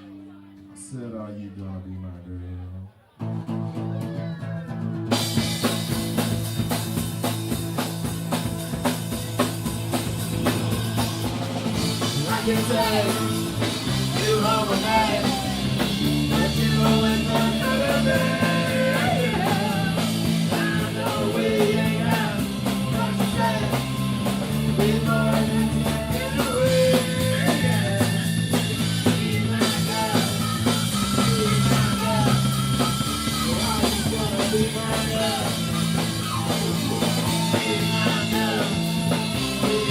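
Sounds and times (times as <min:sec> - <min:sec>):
rock band playing: 0:03.2 - 0:39.9.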